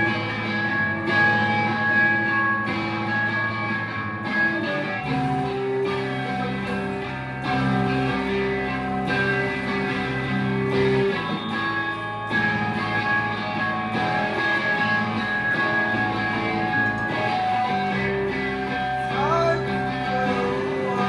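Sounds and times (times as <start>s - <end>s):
bass guitar: 0.0s - 21.0s
electric guitar chords: 0.0s - 21.0s.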